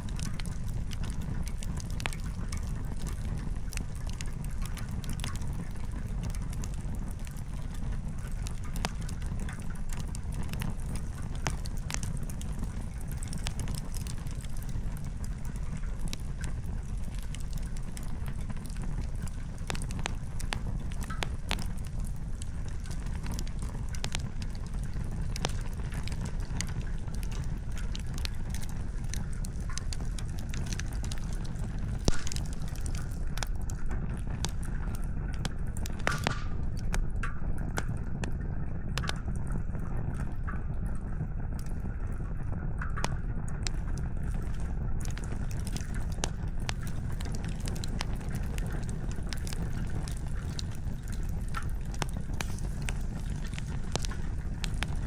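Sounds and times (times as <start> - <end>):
campfire crackling: 0.0 - 42.4, 43.0 - 55.0.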